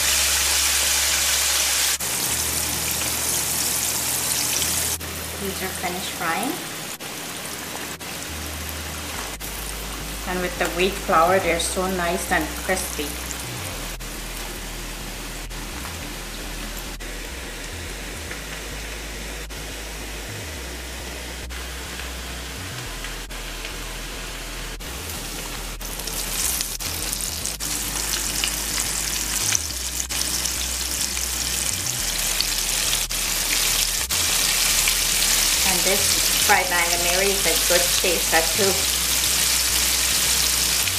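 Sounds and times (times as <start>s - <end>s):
fish sizzling in hot oil: 0.0s - 20.0s, 21.0s - 40.9s.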